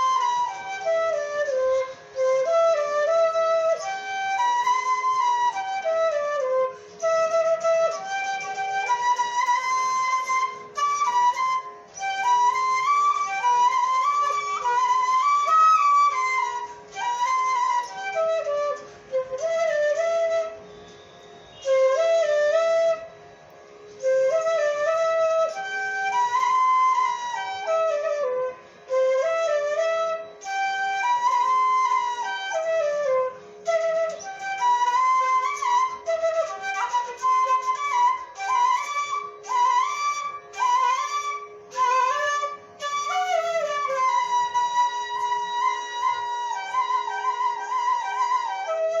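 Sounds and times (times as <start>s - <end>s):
flute-like instrumental melody: 0.0s - 49.0s.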